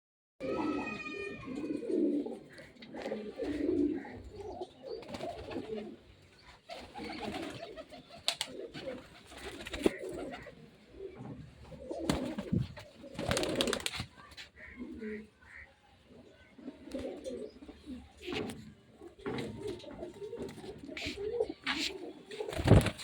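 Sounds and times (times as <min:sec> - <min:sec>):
pigeons cooing: 0:00.4 - 0:13.9, 0:14.6 - 0:23.0.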